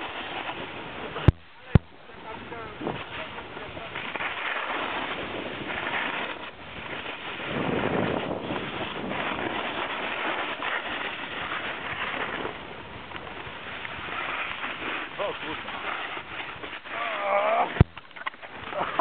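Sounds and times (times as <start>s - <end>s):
snowboard scraping on snow: 0.0s - 19.0s
wind rushing over microphone: 0.0s - 19.0s.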